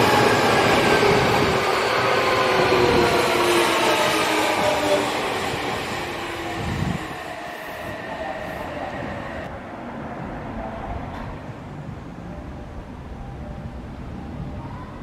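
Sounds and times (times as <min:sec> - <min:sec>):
standing train hum: 0:00.0 - 0:15.0.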